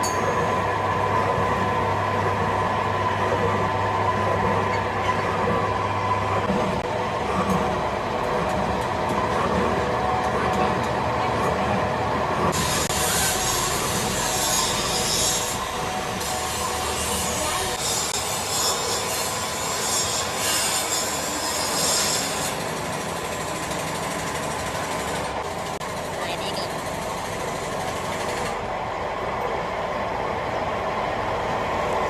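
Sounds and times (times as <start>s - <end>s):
factory machinery running: 0.0s - 32.0s.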